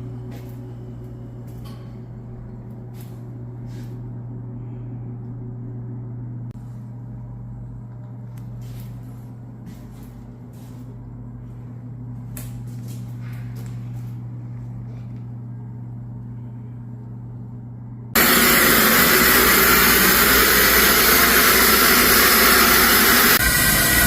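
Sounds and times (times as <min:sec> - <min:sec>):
electric motor hum: 0:00.0 - 0:24.0.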